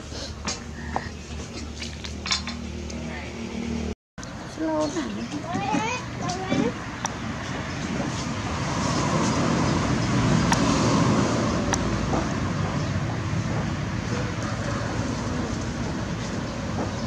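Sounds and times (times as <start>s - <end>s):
road vehicle passing: 0.0s - 17.0s.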